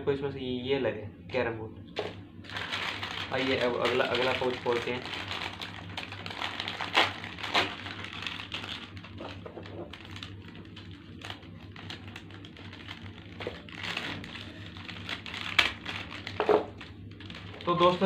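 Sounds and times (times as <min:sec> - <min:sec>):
plastic crinkling and snapping: 0:02.0 - 0:18.0
plastic pouch tearing: 0:02.0 - 0:18.0.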